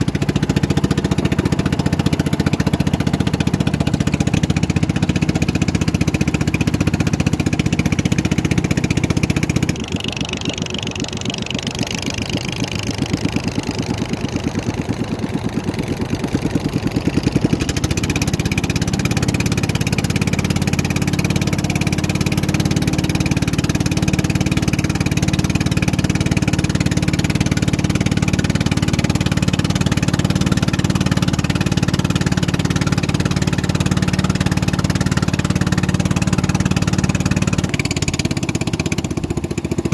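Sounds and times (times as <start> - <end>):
motorboat engine running: 0.0 - 39.9.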